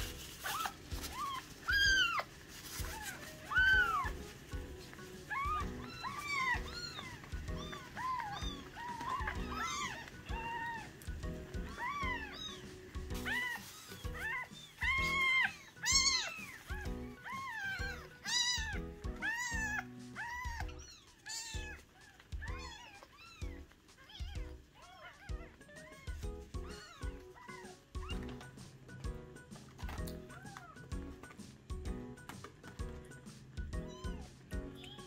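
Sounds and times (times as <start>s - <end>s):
kittens mewing: 0.0s - 31.7s, 32.4s - 35.0s
background music: 0.0s - 35.0s.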